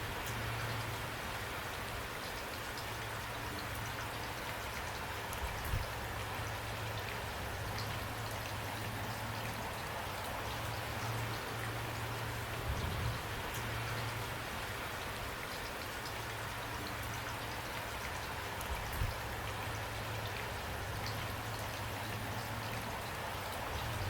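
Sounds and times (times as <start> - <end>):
raindrops ticking on a surface: 0.0 - 24.0
steady rain falling: 0.0 - 24.0.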